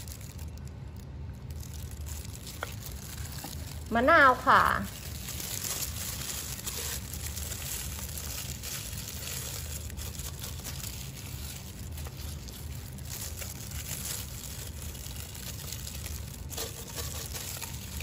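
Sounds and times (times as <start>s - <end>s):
plastic glove crinkling: 0.0s - 18.0s
steady low hum: 0.0s - 18.0s.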